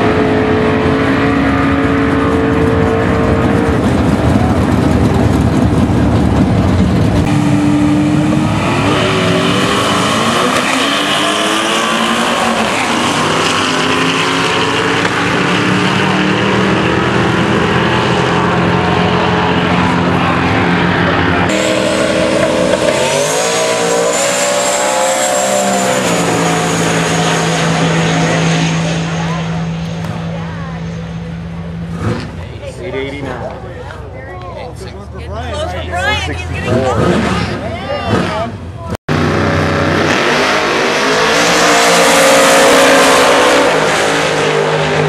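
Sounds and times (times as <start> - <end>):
drag race car engines at full throttle: 0.0 - 45.0.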